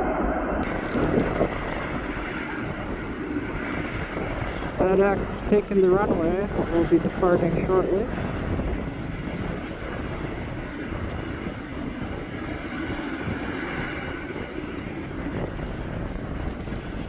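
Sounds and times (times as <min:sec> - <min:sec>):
distant jet engines running: 0:00.0 - 0:17.0
wind rumble on microphone: 0:00.0 - 0:17.0.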